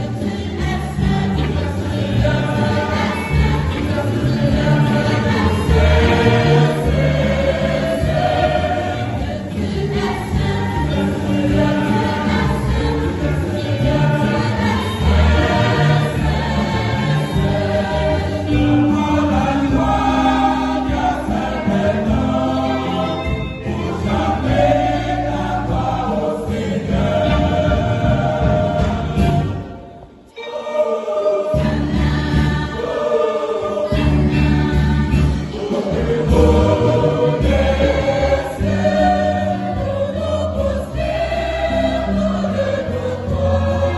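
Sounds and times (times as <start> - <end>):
mixed choir singing a hymn: 0.0 - 43.9.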